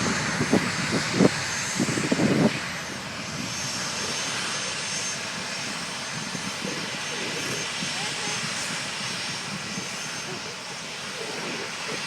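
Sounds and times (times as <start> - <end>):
jet engines roaring at takeoff: 0.0 - 12.0.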